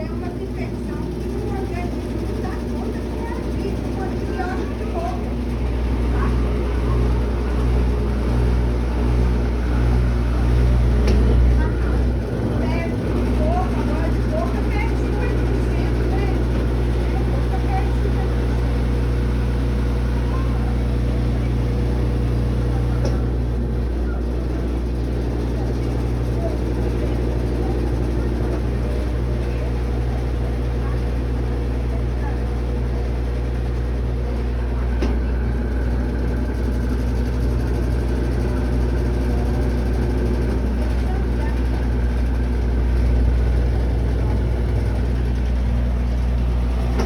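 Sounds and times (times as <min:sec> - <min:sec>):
washing machine humming: 0:00.0 - 0:47.0.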